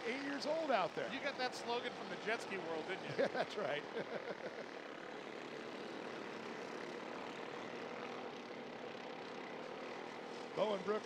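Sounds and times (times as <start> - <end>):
kart engines droning: 0.0 - 11.0.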